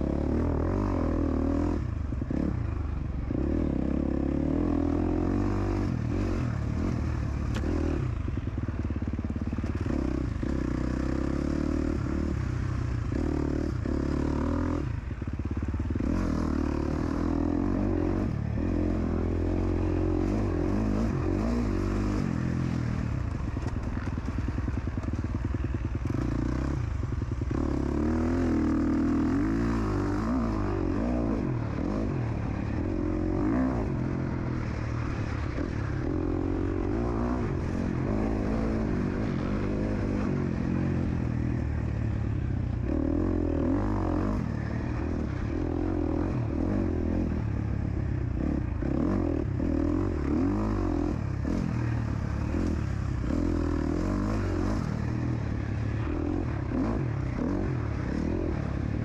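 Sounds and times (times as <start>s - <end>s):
dirt bike engine revving: 0.0s - 2.6s, 3.2s - 8.4s, 9.2s - 42.1s, 42.8s - 59.0s.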